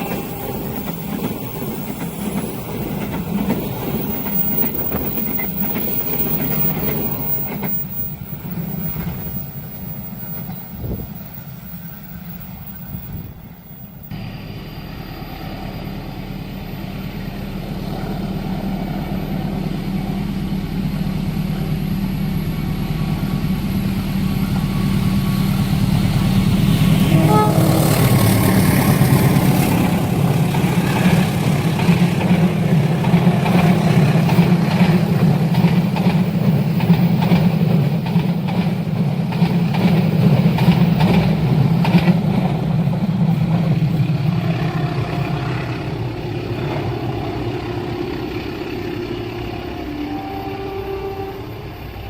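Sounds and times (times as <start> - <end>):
diesel train engine humming: 0.0 - 52.0
passing train: 0.0 - 52.0.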